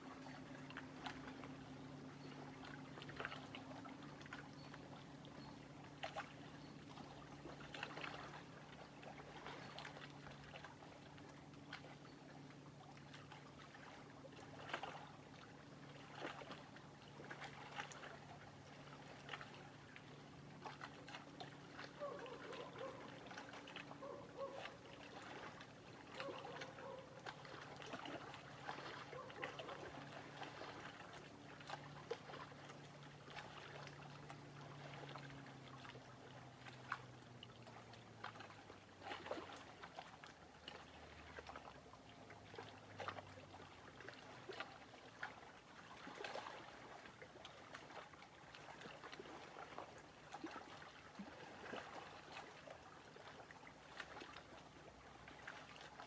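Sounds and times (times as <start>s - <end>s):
lake waves lapping: 0.0s - 56.0s
soft splashes and trickles: 0.0s - 56.0s.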